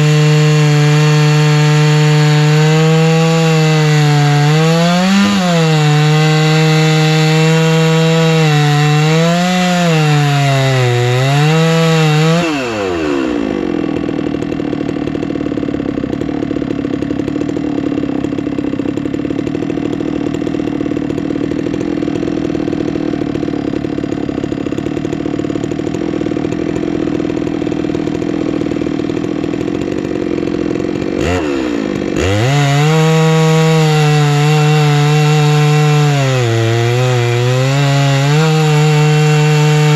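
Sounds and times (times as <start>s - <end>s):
chainsaw ripping log: 0.0s - 39.9s.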